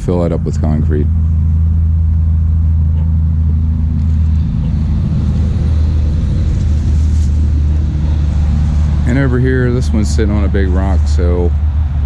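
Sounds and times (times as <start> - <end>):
faint hum: 0.0 - 12.0
loud low rumble: 0.0 - 12.0.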